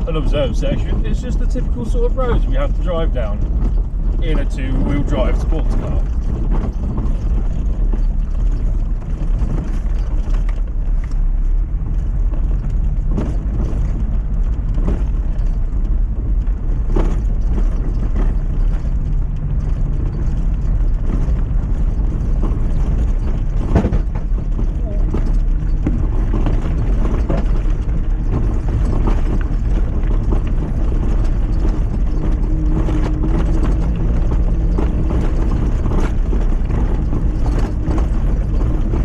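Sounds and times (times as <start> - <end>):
car engine and road noise rumble: 0.0 - 39.0.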